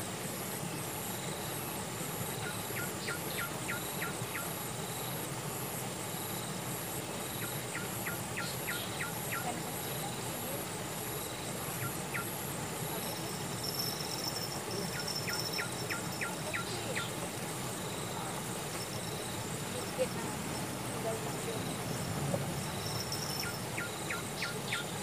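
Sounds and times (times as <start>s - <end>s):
insects calling: 0.0s - 25.0s.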